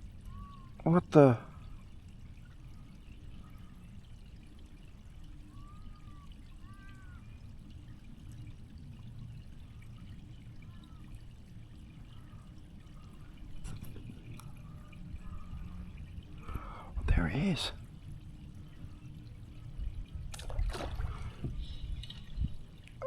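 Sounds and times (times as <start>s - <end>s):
creek water trickling: 0.0s - 23.0s.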